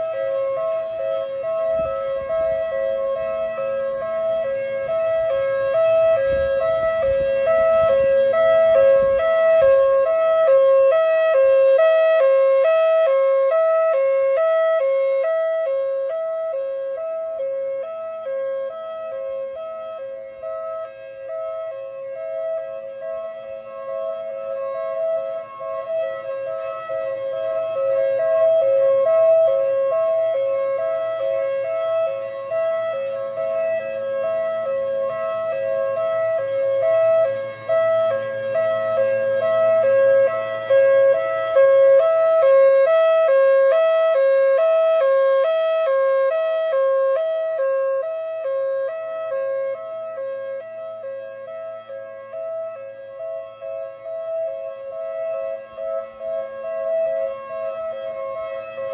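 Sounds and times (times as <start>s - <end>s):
warning siren alternating high and low: 0.0s - 58.9s.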